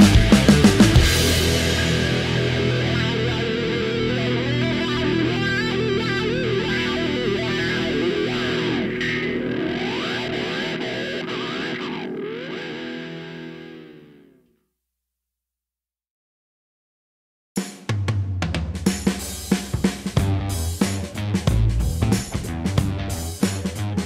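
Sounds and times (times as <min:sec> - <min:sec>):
distorted electric guitar rock: 0:00.0 - 0:14.5, 0:18.8 - 0:24.0.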